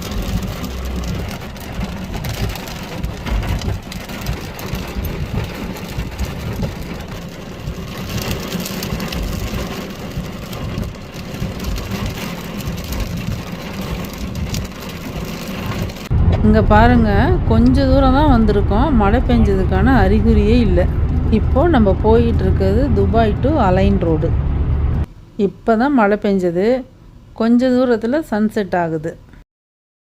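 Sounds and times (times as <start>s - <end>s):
rain hitting glass and roof: 0.0s - 25.0s
car engine and tyres rumble: 0.0s - 25.1s.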